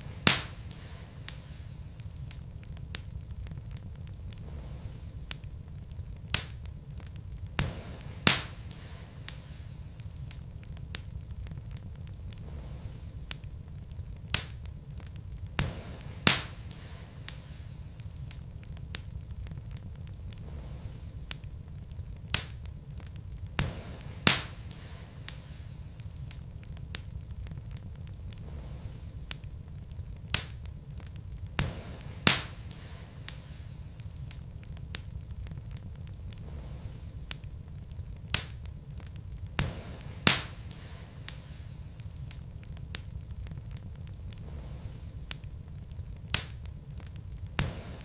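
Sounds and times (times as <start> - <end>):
logs crackling in a fireplace: 0.0 - 48.0
low rumble of flame: 0.0 - 48.0.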